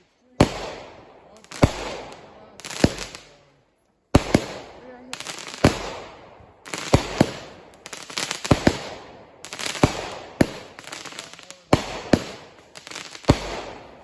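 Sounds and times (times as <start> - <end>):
fireworks bangs: 0.0 - 3.5, 4.1 - 14.0
hissing rush of fireworks: 0.0 - 14.0.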